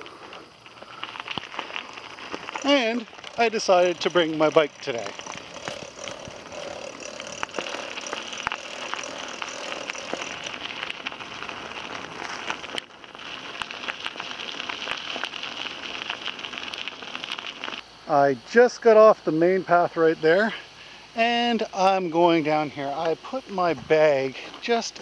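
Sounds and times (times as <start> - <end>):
bicycle tyres on gravel: 0.0 - 25.0.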